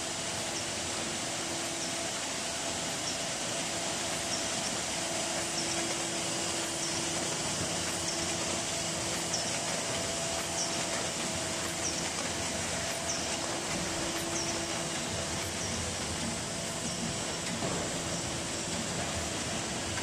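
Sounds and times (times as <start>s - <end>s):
machine whirring and humming: 0.0s - 20.0s.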